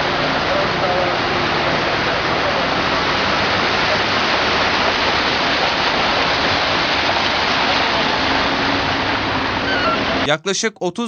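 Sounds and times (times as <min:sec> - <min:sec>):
heavy rain downpour: 0:00.0 - 0:10.4.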